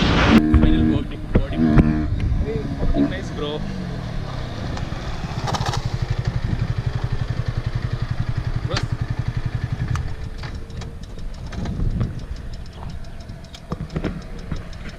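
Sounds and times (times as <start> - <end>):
engine ticking: 0.5 - 14.9
motorcycle engine idling: 0.6 - 14.9.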